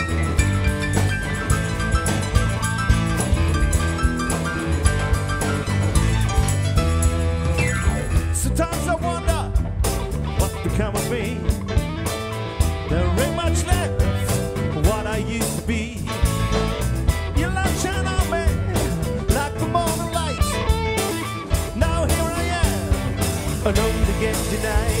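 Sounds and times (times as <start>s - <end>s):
bass guitar: 0.0s - 25.0s
drums: 0.0s - 25.0s
electric guitar bending notes: 0.0s - 25.0s.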